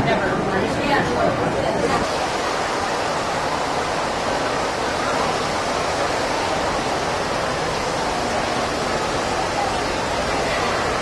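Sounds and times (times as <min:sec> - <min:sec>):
crowd hubbub indoors: 0:00.0 - 0:11.0.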